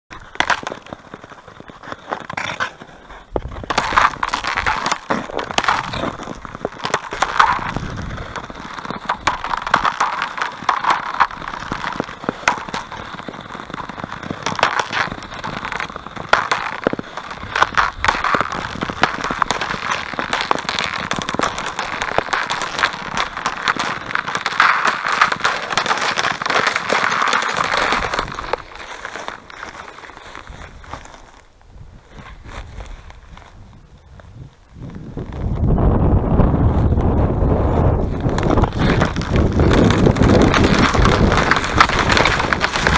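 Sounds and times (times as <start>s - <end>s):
lake ice cracking: 0.1s - 31.4s, 37.8s - 42.9s.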